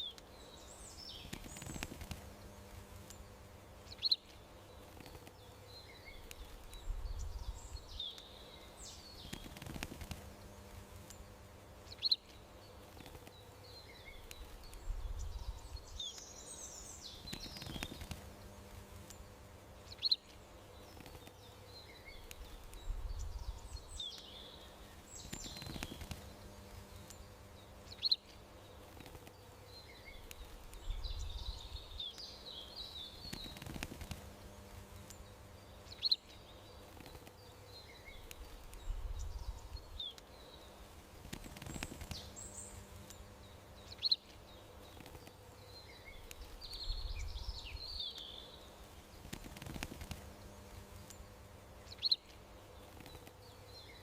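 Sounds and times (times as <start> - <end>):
low steady hum: 0.0 - 54.0
small birds chirping: 0.0 - 54.0.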